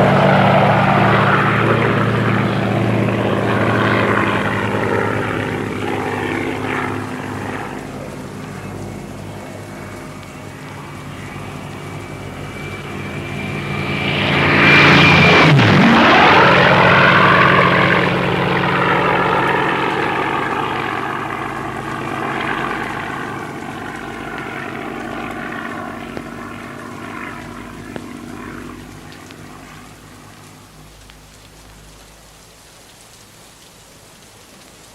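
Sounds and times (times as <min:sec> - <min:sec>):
propeller aircraft flying past: 0:00.0 - 0:32.6.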